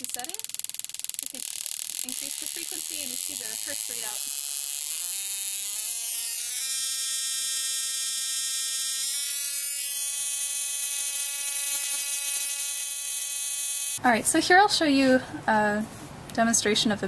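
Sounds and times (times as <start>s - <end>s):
tesla coil buzzing: 0.0s - 14.0s.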